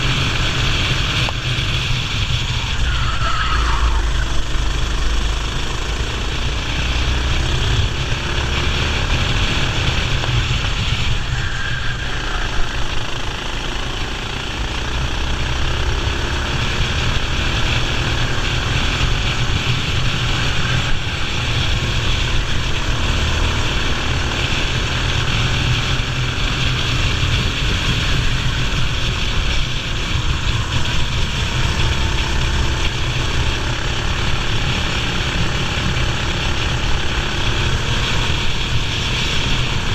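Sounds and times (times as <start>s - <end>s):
racing kart engine: 0.0s - 39.9s
wind noise: 0.0s - 39.9s.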